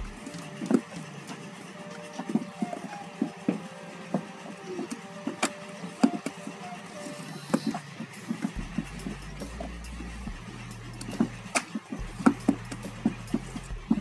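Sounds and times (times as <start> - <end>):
low hum: 0.0 - 14.0
plucked-string background music: 0.0 - 14.0.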